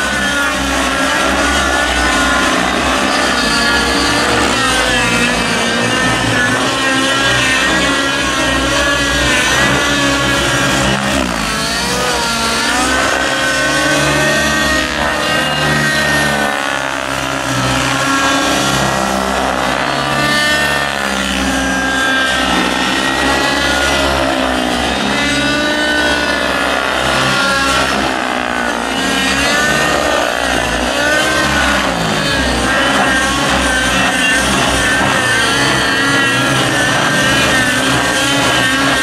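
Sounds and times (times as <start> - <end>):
model aircraft motors whining: 0.0 - 39.0.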